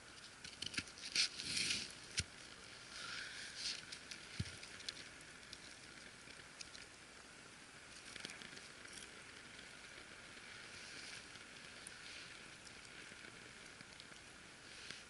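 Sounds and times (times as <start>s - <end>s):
campfire crackling and popping: 0.0s - 15.0s
soft hiss: 0.0s - 15.0s.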